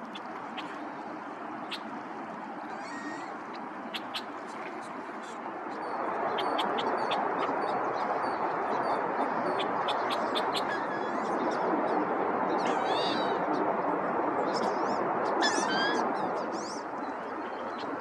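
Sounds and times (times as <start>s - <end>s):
birds chirping: 0.0s - 13.5s, 14.6s - 18.0s
steady rushing noise: 0.0s - 15.4s, 16.0s - 18.0s.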